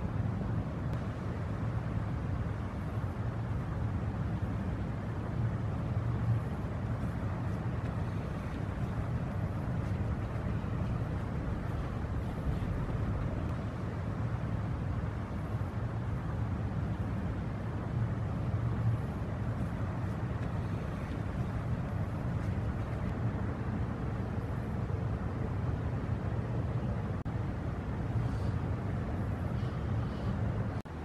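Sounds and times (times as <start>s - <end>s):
ship diesel engine hum: 0.0s - 31.0s.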